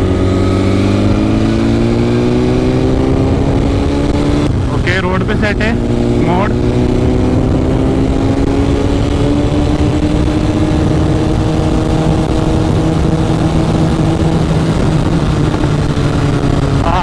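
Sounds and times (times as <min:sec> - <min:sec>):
motorcycle engine rising: 0:00.0 - 0:17.0.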